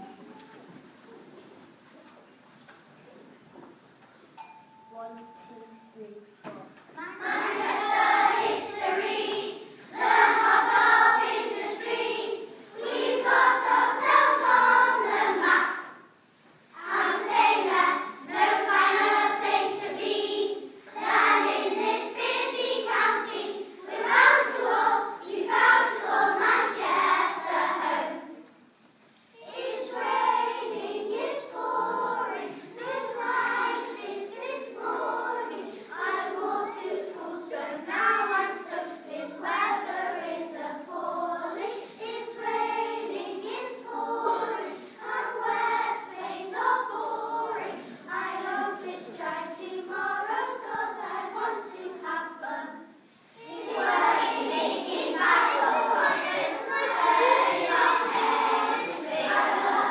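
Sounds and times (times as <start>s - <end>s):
children's choir singing: 7.0s - 28.5s, 29.4s - 59.9s.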